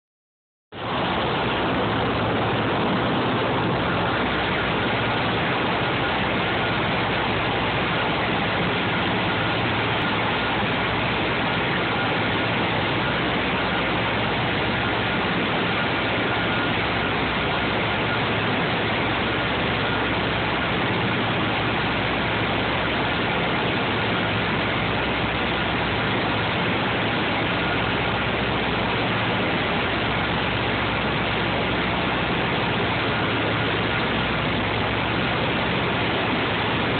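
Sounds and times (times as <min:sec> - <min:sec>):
propeller engines droning: 0:00.8 - 0:36.9
rush of air in cabin: 0:00.8 - 0:36.9.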